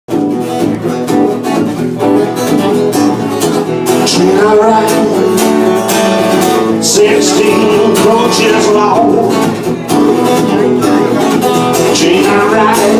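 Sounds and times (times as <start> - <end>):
strummed guitars with steady beat: 0.1 - 12.9.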